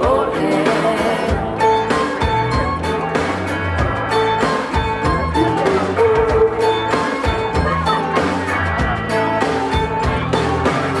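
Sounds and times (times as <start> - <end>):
line-dance music with drum beat: 0.0 - 11.0.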